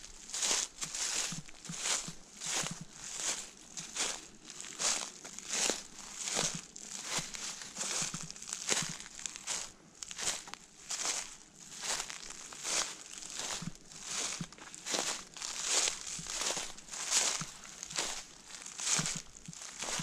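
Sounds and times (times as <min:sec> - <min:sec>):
footsteps through fallen leaves: 0:00.0 - 0:20.0.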